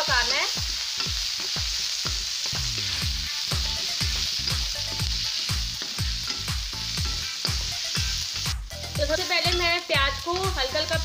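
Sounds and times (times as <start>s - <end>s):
onions sizzling in hot oil: 0.0s - 11.0s
background music with deep thumps: 0.6s - 11.0s.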